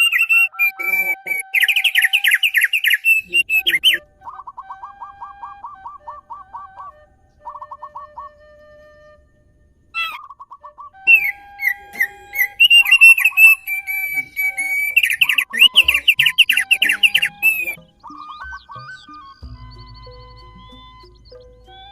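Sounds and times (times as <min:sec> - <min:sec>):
songbirds chirping and whistling: 0:00.0 - 0:21.9.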